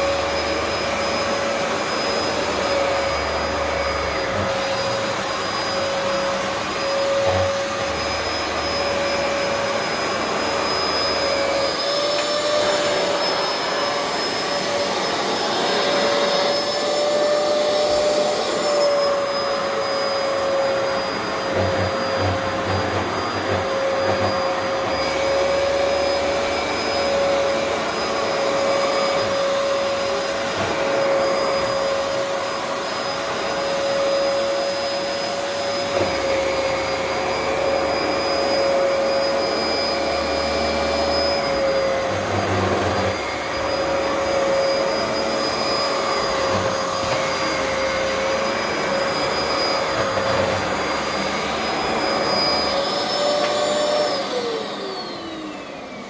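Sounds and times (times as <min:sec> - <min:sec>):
carpet washer motor whine: 0:00.0 - 0:56.0.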